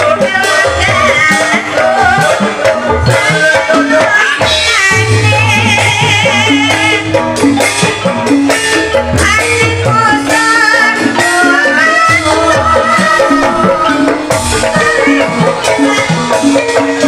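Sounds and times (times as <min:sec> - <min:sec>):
woman singing: 0:00.0 - 0:07.3, 0:09.2 - 0:17.0
bamboo xylophones: 0:00.0 - 0:17.0.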